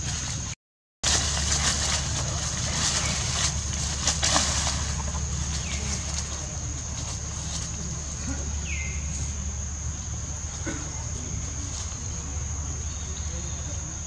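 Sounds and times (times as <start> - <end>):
dry leaves rustling and crackling: 0.0 - 14.0
low hum: 0.0 - 14.0
steady high-pitched whine: 0.0 - 14.0.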